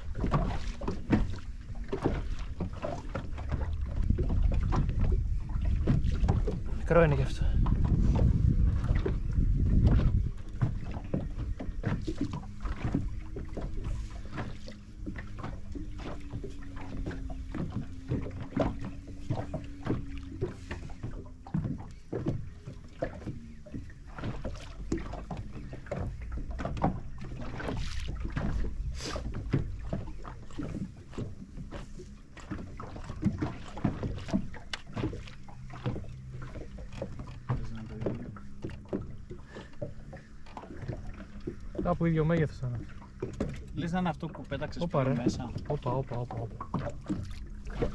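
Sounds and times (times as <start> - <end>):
water lapping against boat hull: 0.0 - 47.9.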